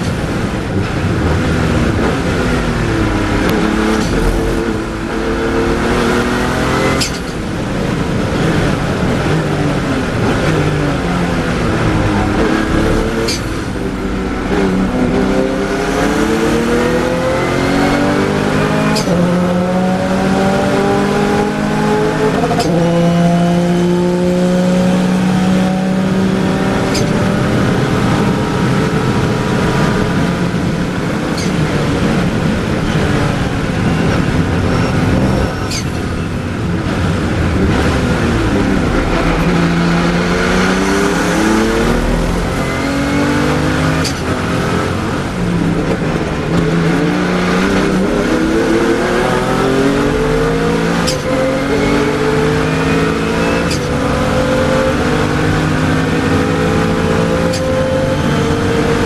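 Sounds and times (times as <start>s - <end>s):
race car engine revving through gears: 0.0s - 59.0s.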